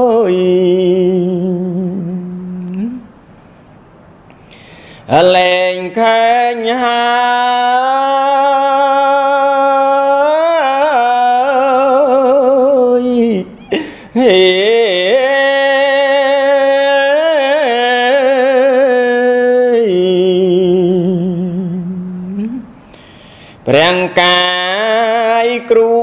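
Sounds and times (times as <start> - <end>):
man chanting: 0.0 - 3.1, 5.0 - 22.7, 23.6 - 26.0.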